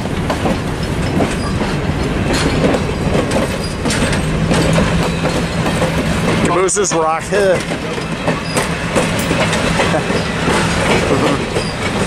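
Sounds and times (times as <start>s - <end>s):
train wheels rumbling on rails: 0.0s - 12.0s
wheels clicking over rail joints: 0.0s - 12.0s.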